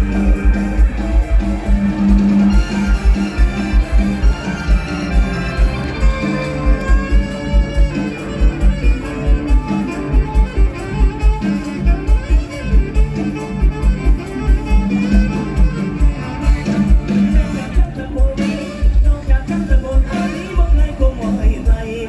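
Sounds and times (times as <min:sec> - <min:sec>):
heavy kick drum beat: 0:00.0 - 0:21.9
band playing melodic lines: 0:00.0 - 0:22.0.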